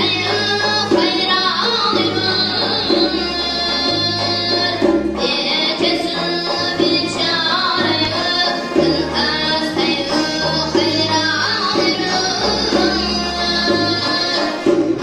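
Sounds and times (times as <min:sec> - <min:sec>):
accordion: 0:00.0 - 0:15.0
frame drum: 0:00.0 - 0:15.0
person singing: 0:00.0 - 0:15.0.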